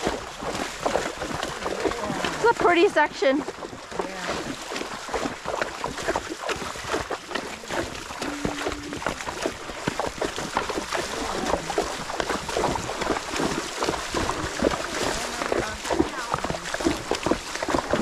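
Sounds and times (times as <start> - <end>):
hooves splashing water: 0.0 - 18.0.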